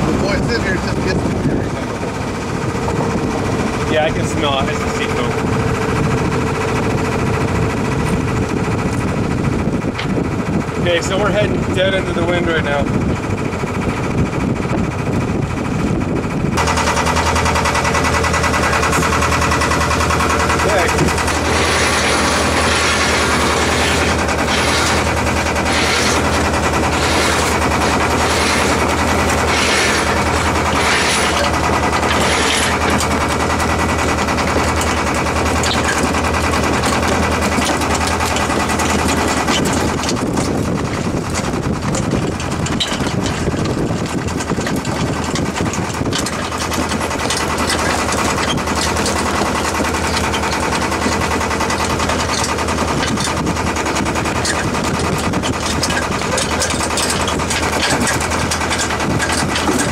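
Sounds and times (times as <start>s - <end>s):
boat engine drone: 0.0s - 59.9s
sail flapping and cracking: 0.9s - 59.9s.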